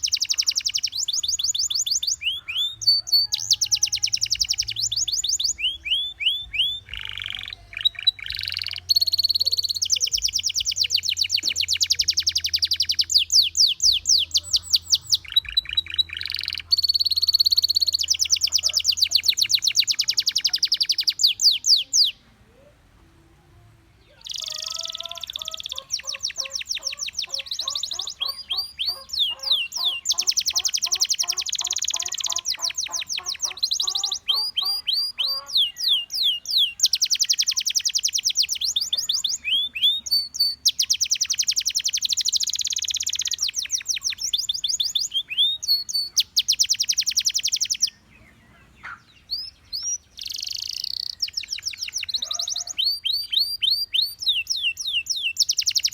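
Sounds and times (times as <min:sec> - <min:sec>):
canary singing trills: 0:00.0 - 0:22.8, 0:24.0 - 0:55.9.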